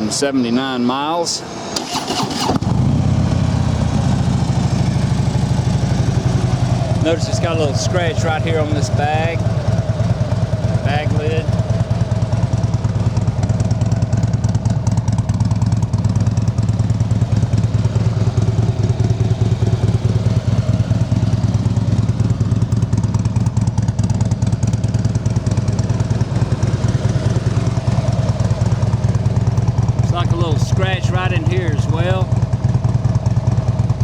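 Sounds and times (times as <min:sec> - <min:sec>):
motorcycle engine idling: 0:01.5 - 0:34.0.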